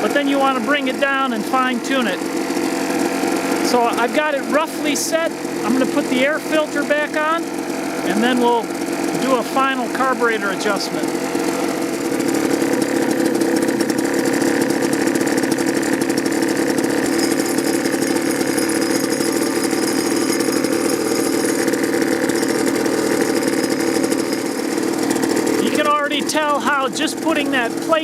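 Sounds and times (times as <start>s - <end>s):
leaf blower engine idling: 0.0s - 28.0s.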